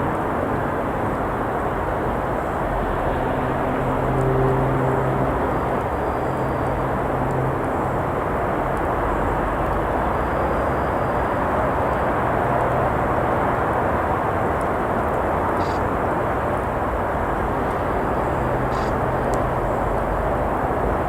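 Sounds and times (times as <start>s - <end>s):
road traffic roar: 0.0s - 21.0s
vehicle engine hum: 0.0s - 21.0s.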